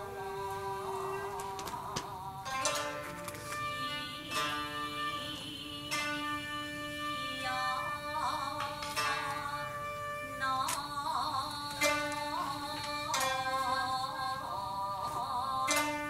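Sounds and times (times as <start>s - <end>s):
plucked string ensemble with flute: 0.0s - 10.9s, 11.7s - 14.2s, 15.7s - 16.0s.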